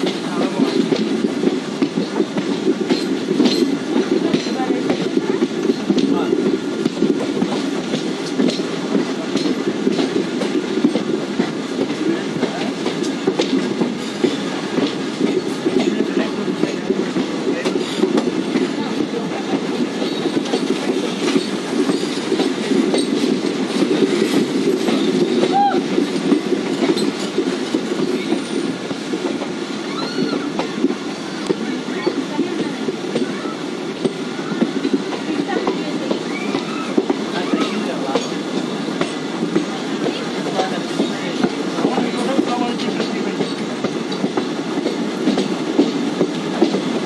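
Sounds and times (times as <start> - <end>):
track clicks and clacks: 0.0 - 47.0
train wheels rumbling on rails: 0.0 - 47.0.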